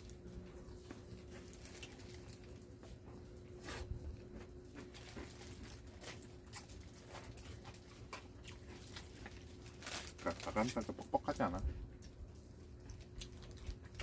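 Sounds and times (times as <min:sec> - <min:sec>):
clicks and rustles of eating: 0:00.0 - 0:14.0
low steady hum: 0:00.0 - 0:14.0.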